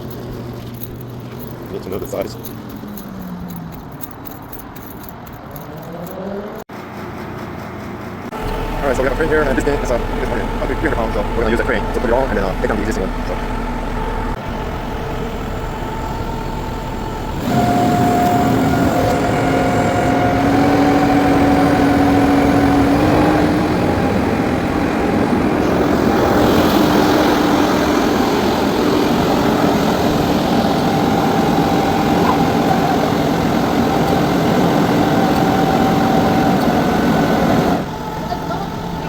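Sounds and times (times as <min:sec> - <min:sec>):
crane humming whine: 0:00.0 - 0:39.0
truck engine running loudly: 0:00.0 - 0:39.0.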